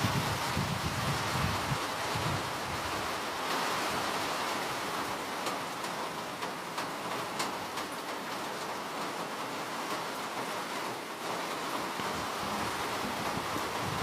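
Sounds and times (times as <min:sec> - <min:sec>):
raindrops ticking sharply: 0:00.0 - 0:14.0
steady rain hiss: 0:00.0 - 0:14.0.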